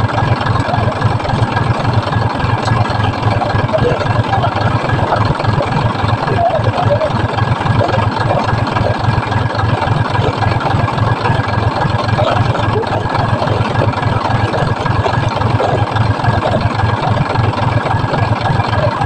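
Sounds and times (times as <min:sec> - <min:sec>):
vehicle engine idling loudly: 0:00.0 - 0:19.0.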